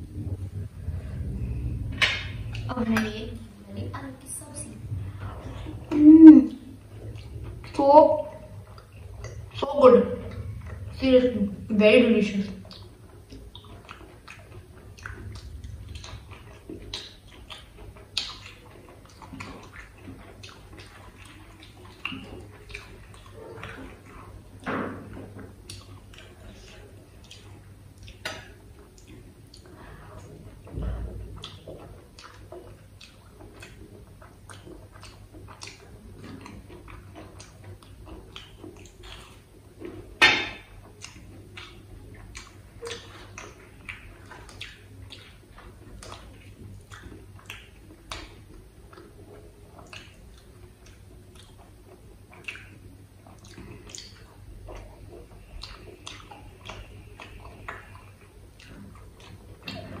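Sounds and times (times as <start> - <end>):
chewing and wet food clicks: 1.4 - 4.5, 6.6 - 60.0.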